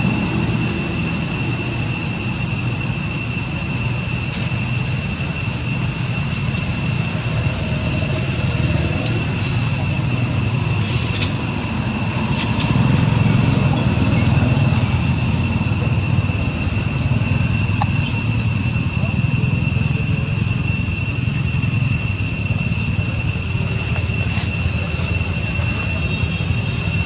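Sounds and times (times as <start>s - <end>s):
constant high-pitched whine: 0.0s - 27.0s.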